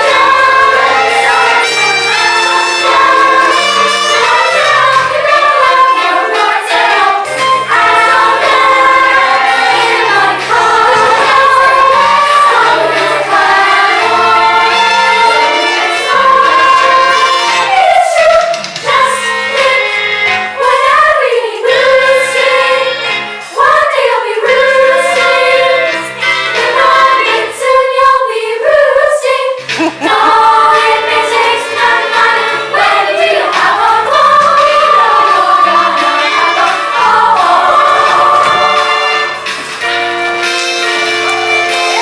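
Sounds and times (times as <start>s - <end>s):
instrumental accompaniment: 0.0s - 27.8s, 29.6s - 42.0s
chorus singing: 0.0s - 42.0s.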